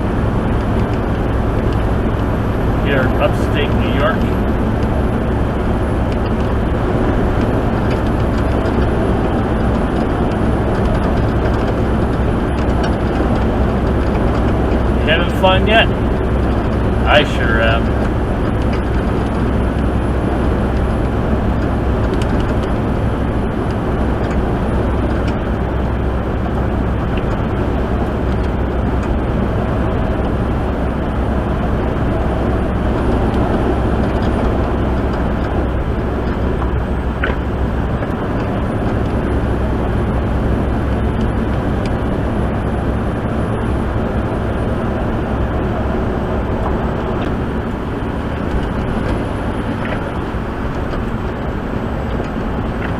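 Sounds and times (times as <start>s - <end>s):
road noise: 0.0s - 52.9s
truck engine drone: 0.0s - 52.9s.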